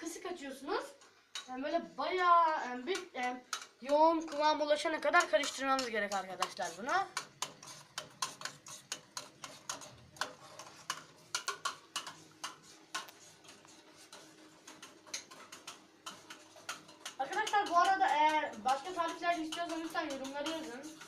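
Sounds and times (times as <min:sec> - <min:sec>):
spoon clicking and scraping pot: 0:00.7 - 0:01.5, 0:02.4 - 0:21.0.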